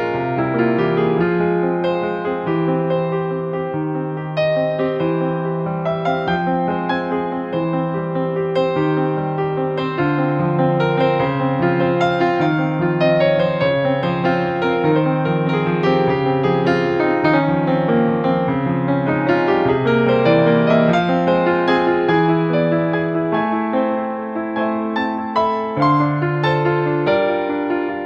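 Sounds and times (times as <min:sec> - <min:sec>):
keyboard playing flowing notes: 0:00.0 - 0:28.0.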